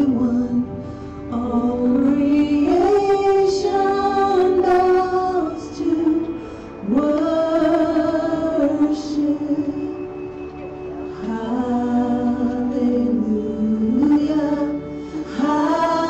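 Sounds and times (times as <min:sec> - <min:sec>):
woman singing worship song: 0:00.0 - 0:10.4, 0:11.0 - 0:16.0.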